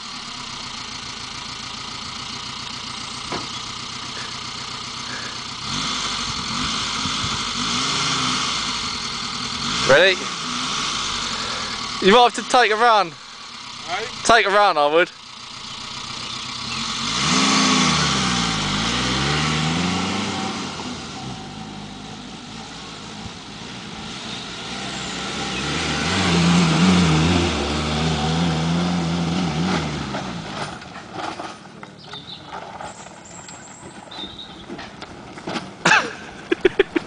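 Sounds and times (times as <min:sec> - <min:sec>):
car engine revving: 0:00.0 - 0:31.4.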